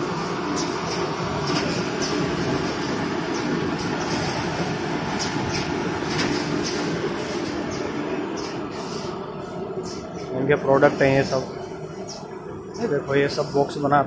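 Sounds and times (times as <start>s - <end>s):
machine rumble and hum: 0.0s - 14.0s.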